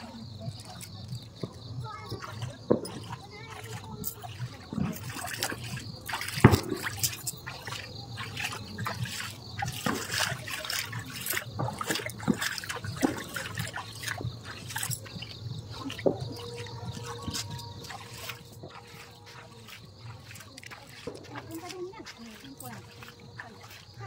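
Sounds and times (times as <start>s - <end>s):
water splashing and trickling: 0.0s - 24.0s.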